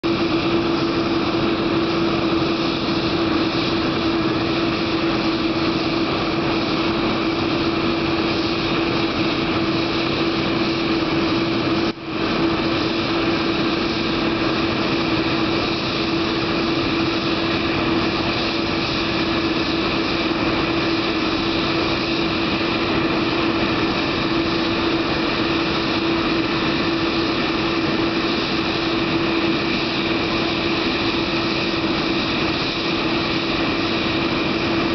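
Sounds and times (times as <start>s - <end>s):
jet engine whine: 0.0s - 34.9s.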